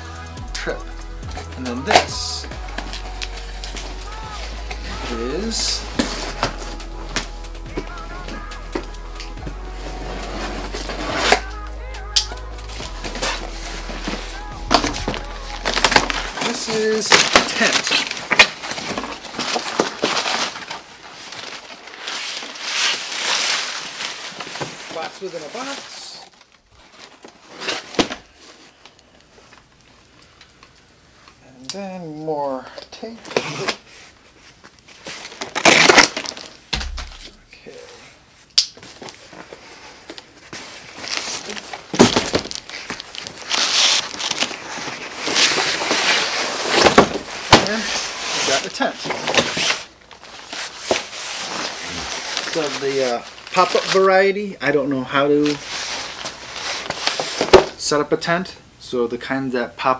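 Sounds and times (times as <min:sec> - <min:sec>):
packing paper rustling: 0:00.0 - 0:30.7, 0:32.1 - 0:57.9.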